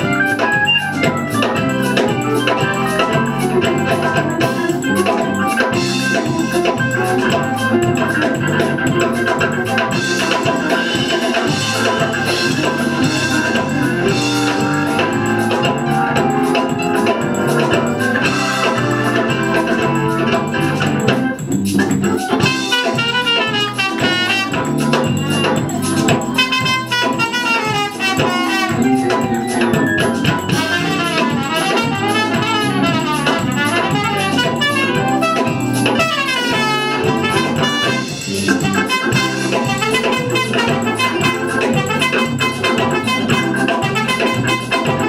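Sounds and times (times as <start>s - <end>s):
trumpet runs: 0.0s - 21.4s, 22.1s - 45.0s
congas: 0.0s - 45.0s
drum kit: 0.0s - 45.0s
electric bass: 0.0s - 45.0s
organ chords: 0.0s - 45.0s.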